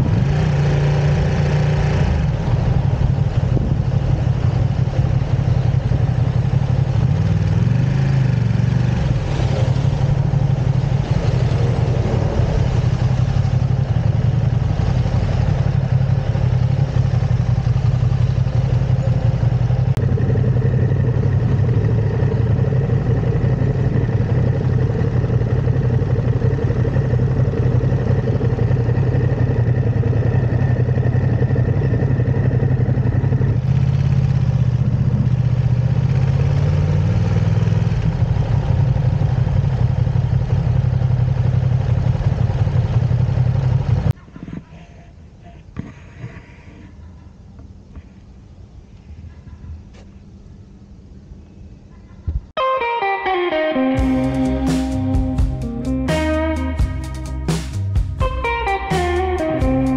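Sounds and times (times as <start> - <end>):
motorcycle engine running: 0.0 - 44.5, 54.0 - 59.9.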